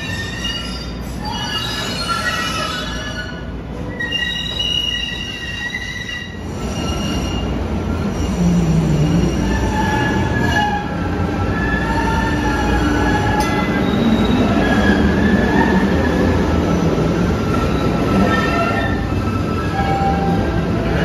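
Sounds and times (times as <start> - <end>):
approaching train rumbling: 0.0 - 21.0
train wheels squealing: 0.0 - 21.0.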